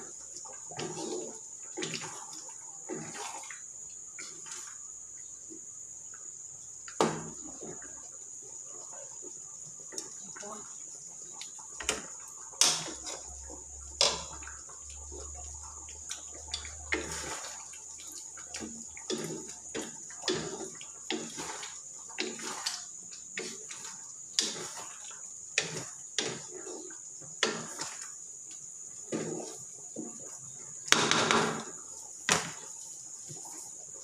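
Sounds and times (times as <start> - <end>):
spatula stirring thick sauce: 0.0 - 4.9, 7.0 - 30.9.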